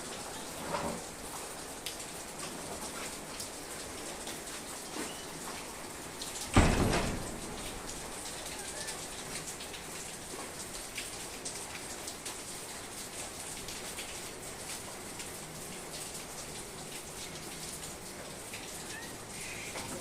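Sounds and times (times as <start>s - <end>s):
rain drops ticking: 0.0s - 20.0s.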